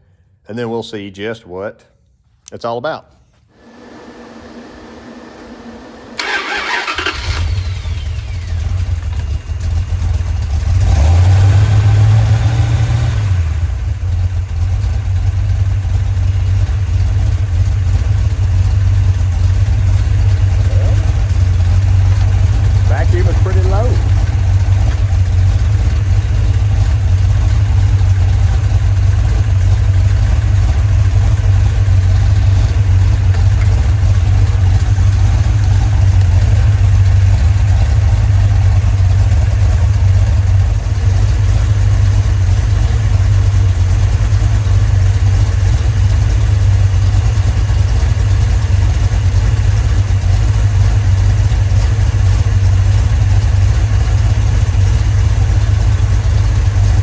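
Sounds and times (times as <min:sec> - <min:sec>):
car engine idling: 0:03.6 - 0:57.0.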